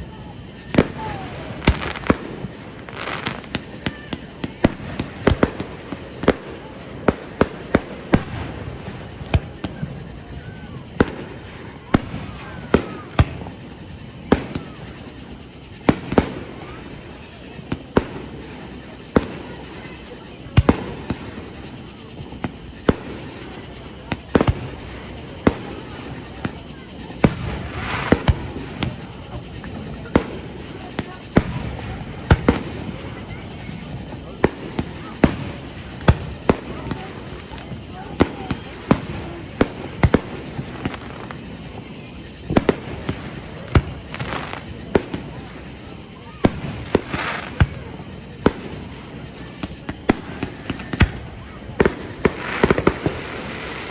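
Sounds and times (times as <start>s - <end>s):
fireworks bursting with sharp bangs: 0.0s - 53.9s
steady background noise: 0.0s - 53.9s.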